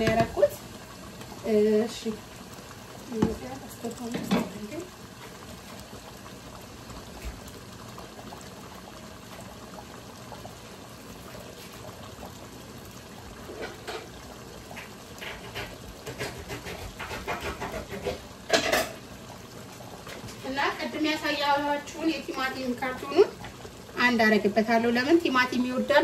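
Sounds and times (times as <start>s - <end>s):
stew hissing on a burner: 0.0s - 26.0s.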